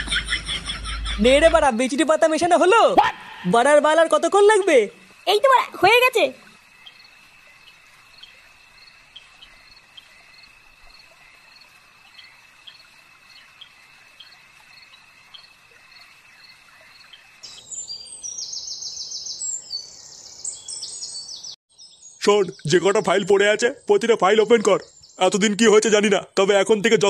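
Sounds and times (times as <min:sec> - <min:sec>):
crickets trilling: 0:00.3 - 0:27.0
birds chirping rapidly: 0:00.4 - 0:26.2.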